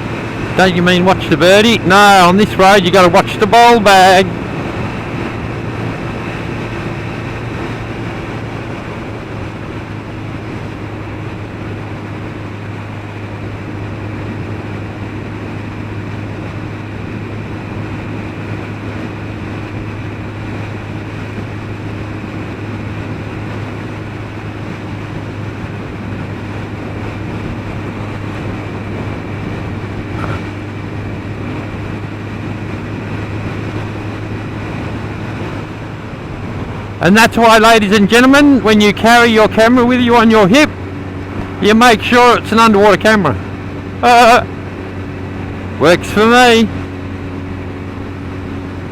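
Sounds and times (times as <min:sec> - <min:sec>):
motorcycle engine cruising: 0:00.0 - 0:48.9
wind and road noise: 0:00.0 - 0:48.9.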